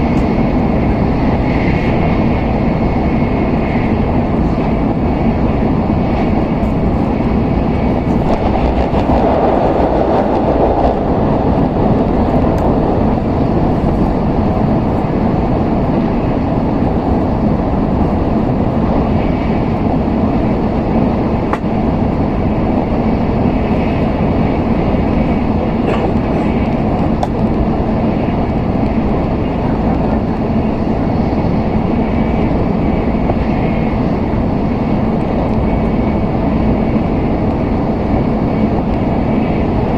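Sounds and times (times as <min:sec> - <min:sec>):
train cabin rumble and hum: 0:00.0 - 0:39.9.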